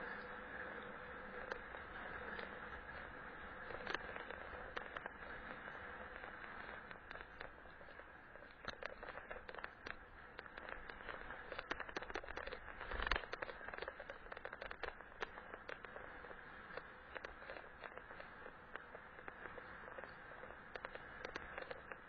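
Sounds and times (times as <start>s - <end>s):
bike clicks and rattles: 0.0s - 22.0s.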